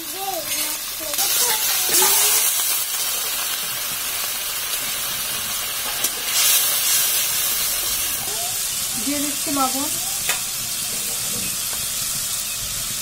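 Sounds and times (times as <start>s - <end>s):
paste sizzling in hot oil: 0.0s - 13.0s
water hissing in hot oil: 0.0s - 13.0s.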